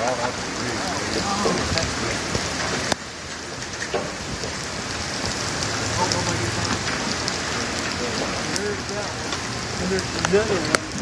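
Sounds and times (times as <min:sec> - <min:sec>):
rain hiss: 0:00.0 - 0:11.0
raindrops ticking: 0:00.0 - 0:11.0.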